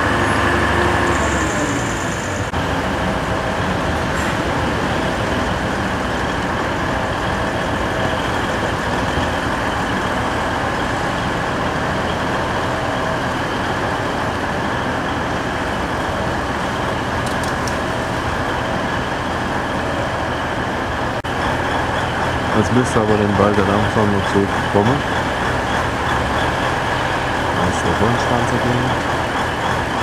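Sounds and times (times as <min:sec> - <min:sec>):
vehicle rumble with hiss: 0:00.0 - 0:30.0.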